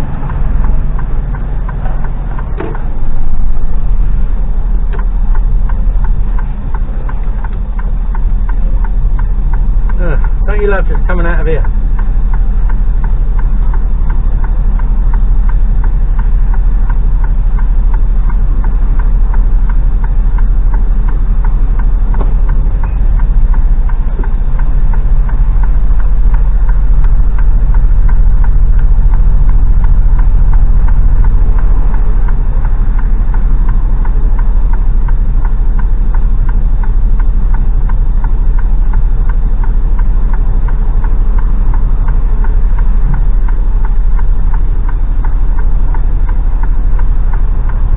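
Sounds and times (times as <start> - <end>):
truck diesel engine pulsing: 0.0 - 47.9.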